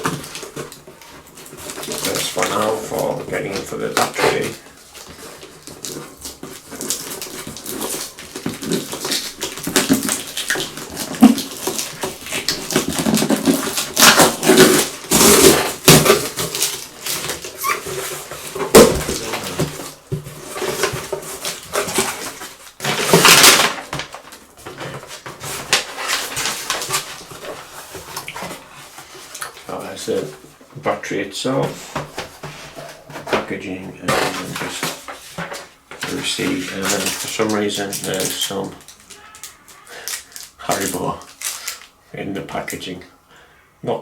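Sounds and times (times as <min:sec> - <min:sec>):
cardboard and plastic rustling: 0:00.0 - 0:43.0.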